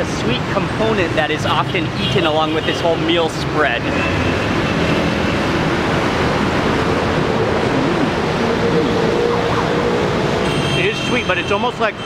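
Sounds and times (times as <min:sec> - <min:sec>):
busy city street traffic: 0:00.0 - 0:12.0.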